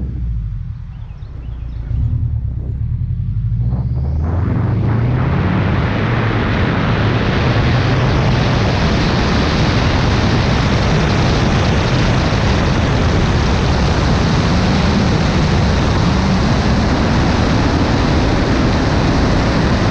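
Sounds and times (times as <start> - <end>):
car engine low rumble: 0.0 - 19.9
wind rushing over microphone: 0.0 - 19.9.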